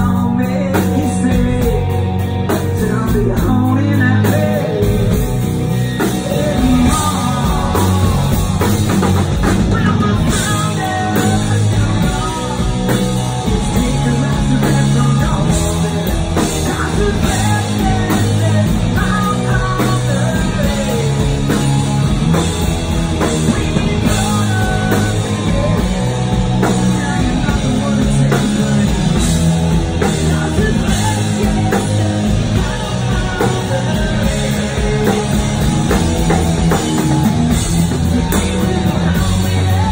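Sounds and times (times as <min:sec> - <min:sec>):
hard rock band playing live: 0:00.0 - 0:39.9
man singing: 0:00.0 - 0:39.9.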